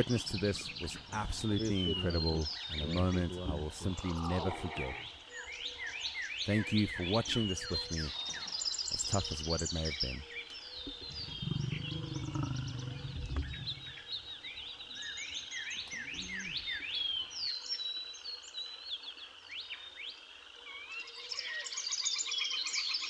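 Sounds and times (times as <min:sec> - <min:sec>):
birds chirping and whistling: 0:00.0 - 0:18.7.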